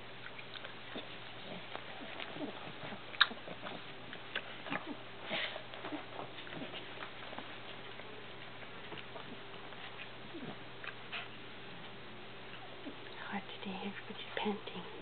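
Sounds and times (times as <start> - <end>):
puppies chewing rope toy: 0.0 - 13.2.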